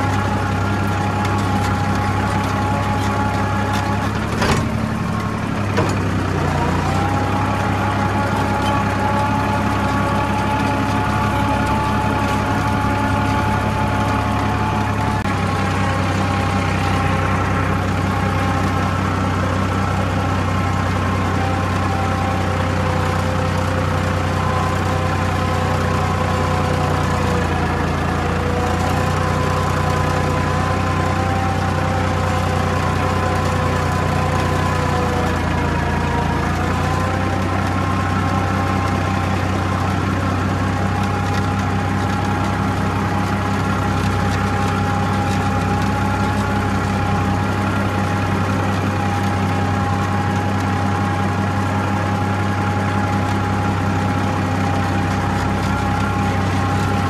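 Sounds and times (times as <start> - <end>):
steady machine whine: 0.0 - 57.0
tractor diesel engine running: 0.0 - 57.0.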